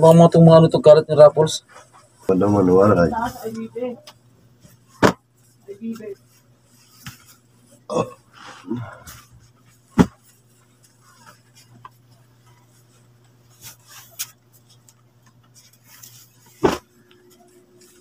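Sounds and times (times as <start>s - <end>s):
steady low hum: 0.0s - 18.0s
cloth rustling and rubbing: 1.6s - 7.8s, 9.0s - 18.0s.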